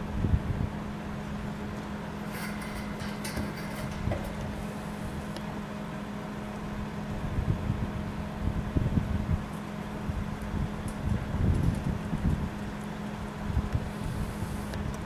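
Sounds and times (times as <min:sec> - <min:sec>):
wind rumbling on microphone: 0:00.0 - 0:05.7, 0:06.8 - 0:15.0
constant low hum: 0:00.0 - 0:15.0.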